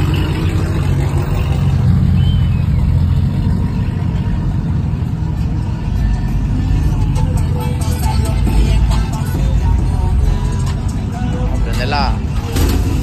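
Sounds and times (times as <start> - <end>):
trucks driving past: 0.0 - 13.0.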